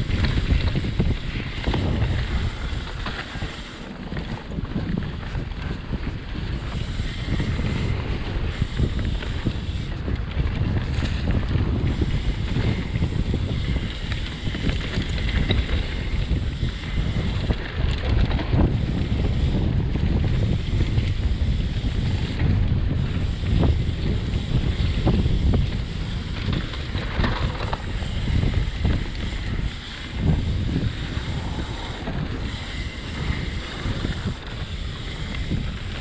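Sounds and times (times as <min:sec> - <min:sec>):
bike knocks and rattles: 0:00.0 - 0:36.0
tyres rumbling on dirt trail: 0:00.0 - 0:36.0
wind buffeting microphone: 0:00.0 - 0:36.0.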